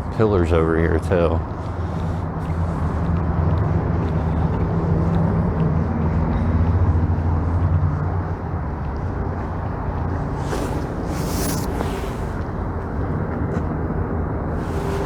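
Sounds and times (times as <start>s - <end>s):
passing vehicle engine rumble: 0.0s - 15.0s.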